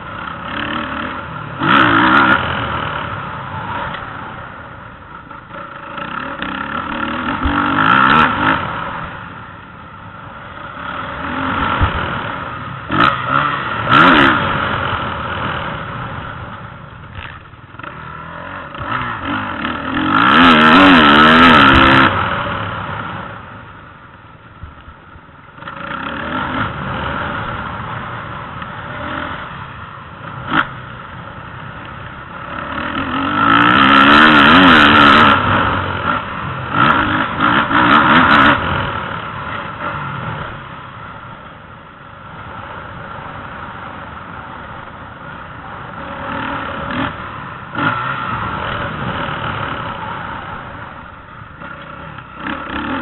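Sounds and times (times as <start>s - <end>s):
motocross motorcycles revving: 0.0s - 53.0s.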